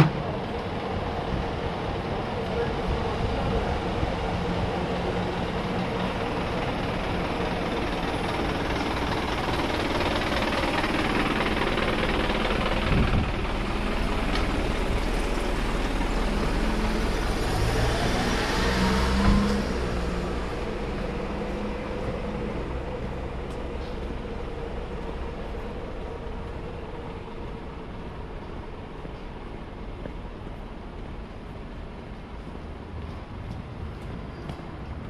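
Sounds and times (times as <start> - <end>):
street traffic: 0.0 - 35.0
vehicle engine running nearby: 0.0 - 35.0.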